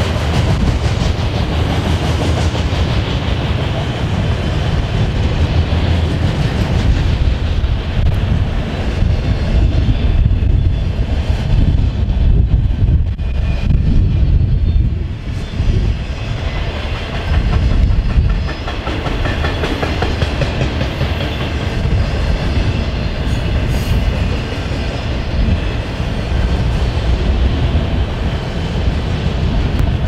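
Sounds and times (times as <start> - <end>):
steel wheels rumbling on rail: 0.0 - 30.0
wheels clickety-clack on rail joints: 0.0 - 30.0.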